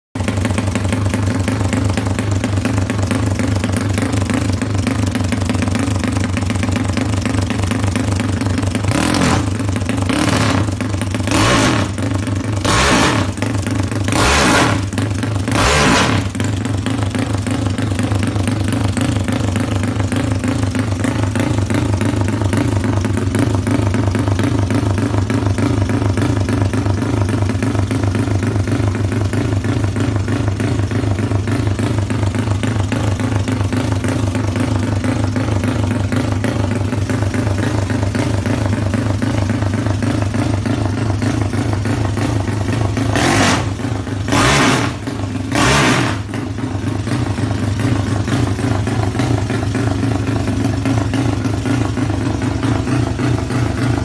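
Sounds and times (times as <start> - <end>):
scooter engine pulsing: 0.2 - 54.0.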